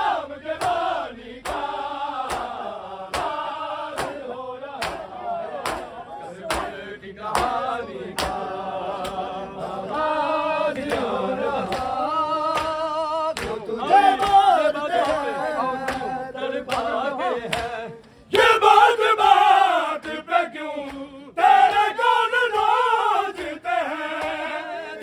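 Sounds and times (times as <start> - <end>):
men chanting a lament: 0.0 - 25.0.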